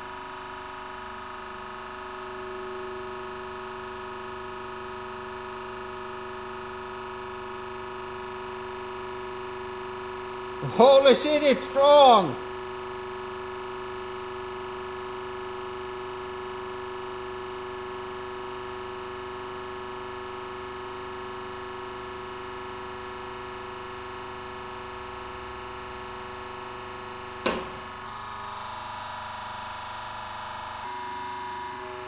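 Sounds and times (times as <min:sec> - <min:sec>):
steady electric hum: 0:00.0 - 0:18.3, 0:23.5 - 0:32.0.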